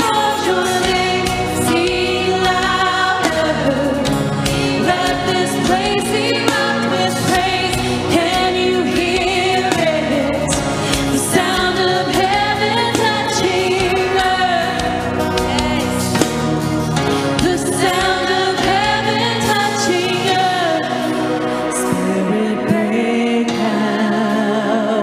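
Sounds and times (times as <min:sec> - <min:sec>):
voices singing: 0:00.0 - 0:16.5, 0:17.3 - 0:21.2
acoustic guitar: 0:00.0 - 0:24.8
drums: 0:00.0 - 0:25.0.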